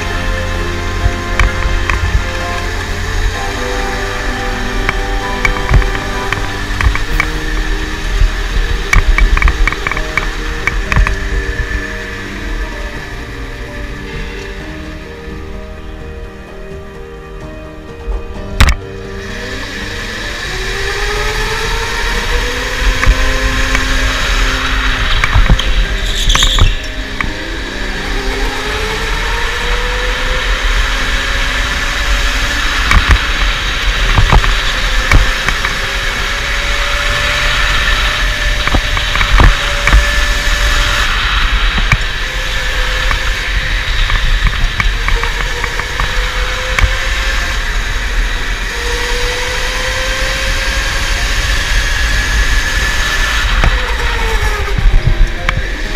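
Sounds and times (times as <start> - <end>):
electric motor whining: 0.0 - 16.6, 18.6 - 55.9
low rumble: 0.0 - 55.9.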